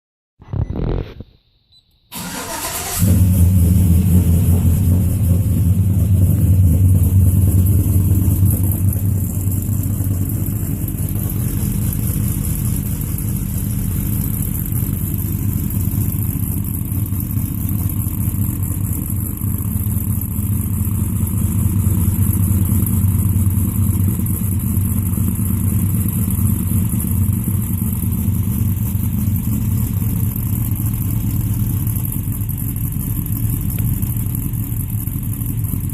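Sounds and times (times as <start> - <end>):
truck engine idling: 2.1 - 35.9.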